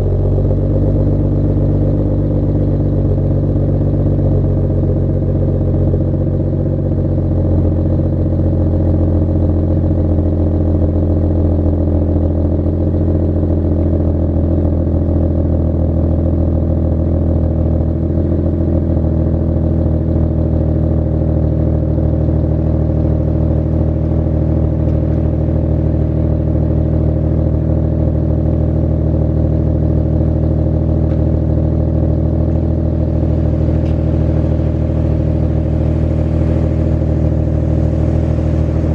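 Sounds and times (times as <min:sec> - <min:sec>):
car engine exhaust drone: 0:00.0 - 0:38.9.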